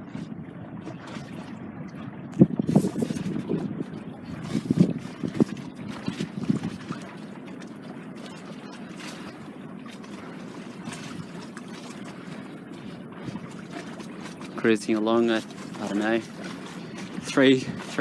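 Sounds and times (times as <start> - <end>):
water rushing along boat hull: 0.0 - 18.0.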